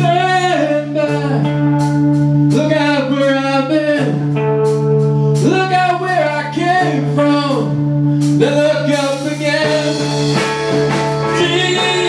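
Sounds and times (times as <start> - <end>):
man singing: 0.0 - 4.4, 5.4 - 10.4, 11.1 - 12.0
bass guitar: 0.0 - 12.0
distorted electric guitar: 0.0 - 12.0.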